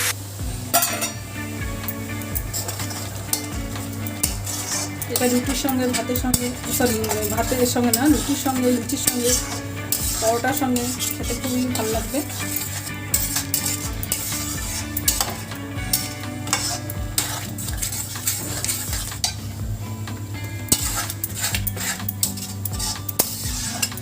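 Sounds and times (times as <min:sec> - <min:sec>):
metal spoon scraping pan: 0:00.7 - 0:19.5, 0:20.7 - 0:24.0.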